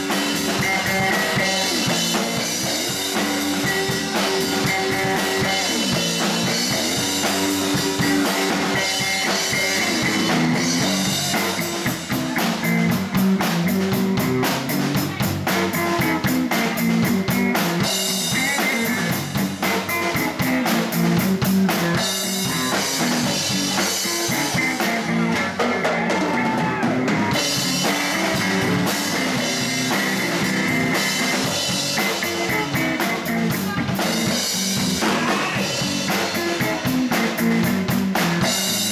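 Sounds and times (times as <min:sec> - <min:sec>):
drum kit beat on cymbals and drums: 0:00.0 - 0:38.9
electric bass guitar: 0:00.0 - 0:38.9
electric guitar: 0:00.0 - 0:38.9.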